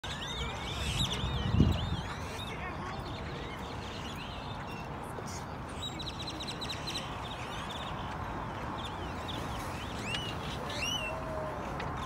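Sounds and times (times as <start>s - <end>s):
flock of birds chirping: 0.0s - 12.0s.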